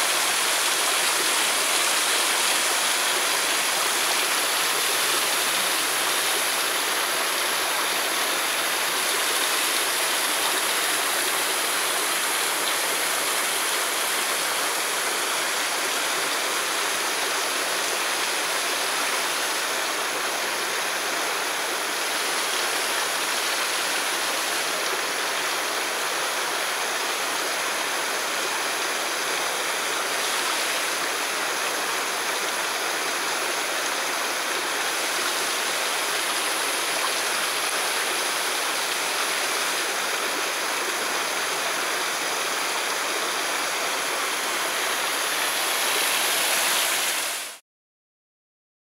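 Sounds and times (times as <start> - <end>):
fast-flowing water rushing: 0.0 - 47.6.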